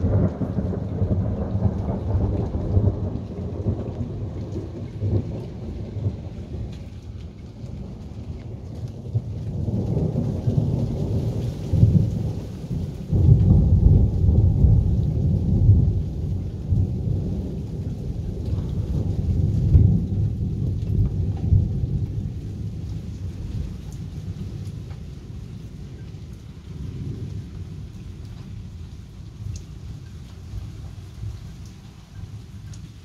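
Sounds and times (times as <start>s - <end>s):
thunder rumbling: 0.0s - 31.4s.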